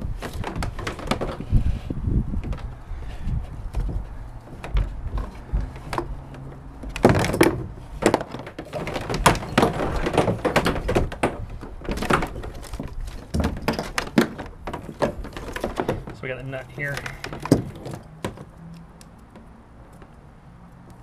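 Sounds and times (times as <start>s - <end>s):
cable rustling: 0.0s - 20.1s.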